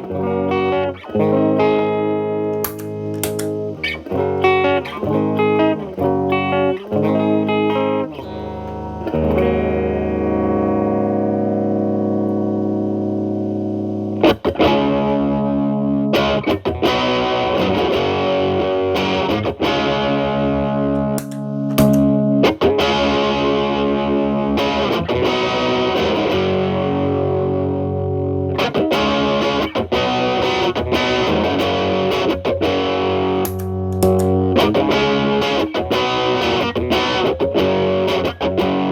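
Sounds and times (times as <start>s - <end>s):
overdriven electric guitar chords: 0.0s - 38.9s.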